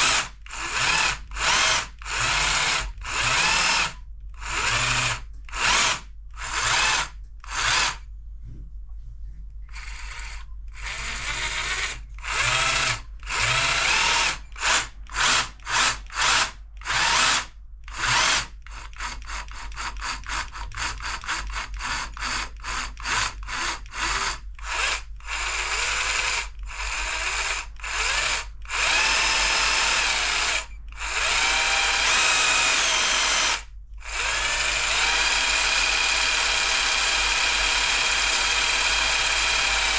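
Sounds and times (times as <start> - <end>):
jigsaw motor whining: 0.0 - 8.0, 9.7 - 39.9.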